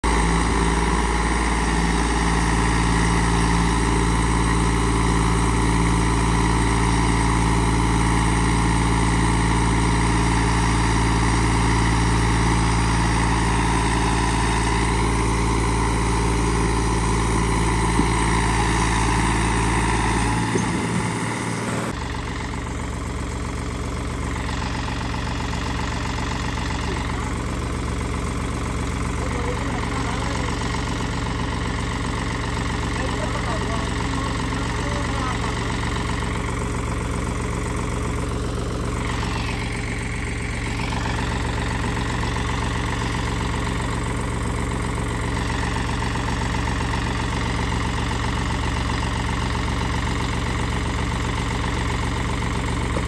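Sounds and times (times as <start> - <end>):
tractor diesel engine straining: 0.0 - 53.0.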